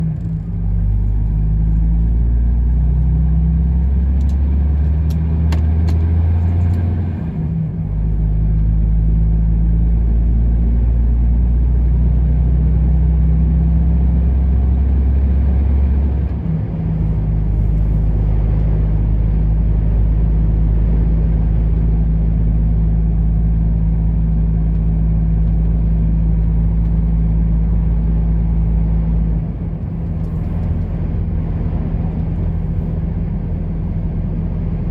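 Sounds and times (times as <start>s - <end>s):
road noise: 0.0s - 34.9s
truck engine droning: 0.0s - 34.9s.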